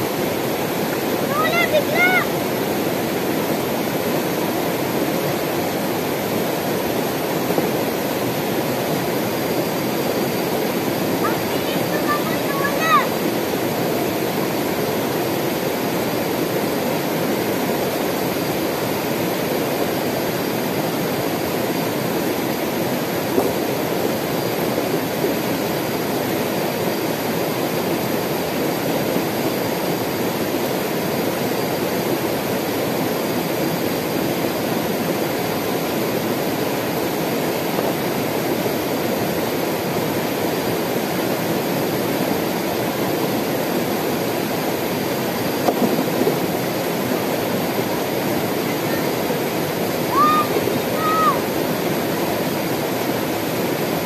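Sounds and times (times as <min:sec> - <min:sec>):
river rushing over rocks: 0:00.0 - 0:54.0.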